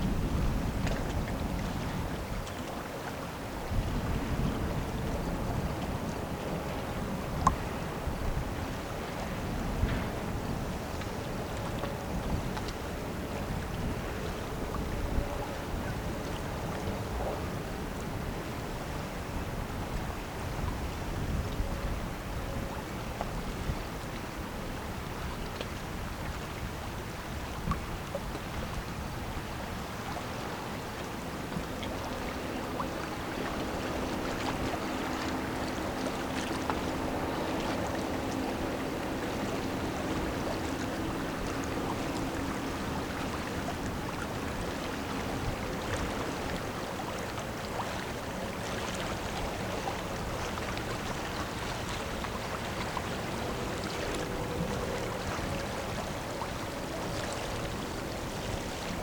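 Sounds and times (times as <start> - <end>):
faint low engine hum: 0.0 - 59.0
river water: 0.0 - 59.0
wind: 0.0 - 59.0.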